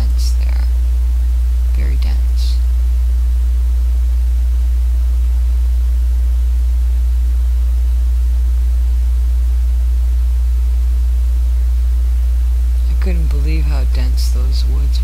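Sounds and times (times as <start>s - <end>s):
low electrical hum with hiss: 0.0s - 15.0s.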